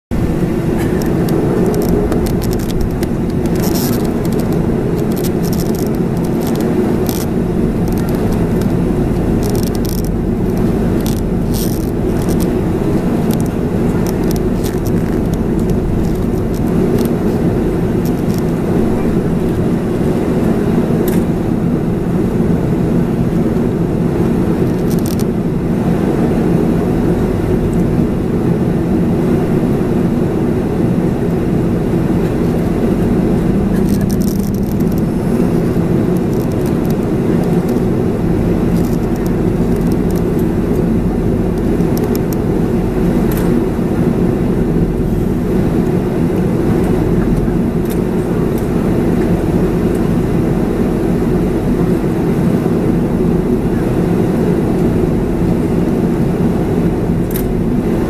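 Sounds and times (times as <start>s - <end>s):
jet engines idling hum: 0.1s - 58.0s.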